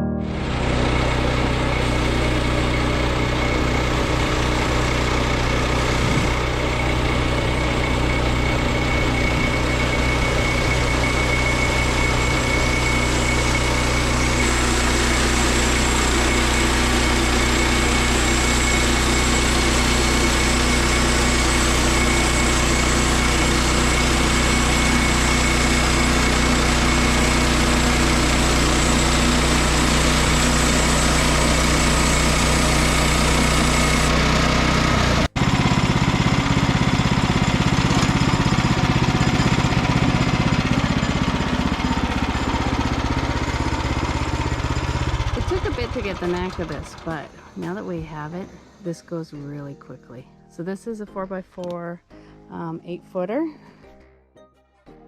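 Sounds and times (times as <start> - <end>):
sawmill engine running steadily: 0.3 - 49.2.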